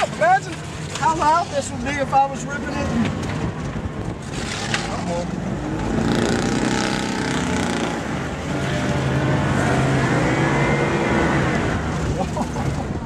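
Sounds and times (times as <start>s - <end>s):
car engine and exhaust revving: 0.0s - 13.0s.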